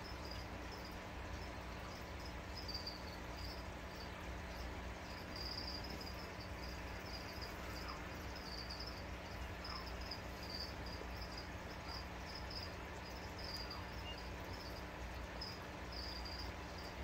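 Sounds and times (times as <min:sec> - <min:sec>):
faint high-pitched chirps: 0:00.0 - 0:17.0
steady low hum: 0:00.0 - 0:17.0.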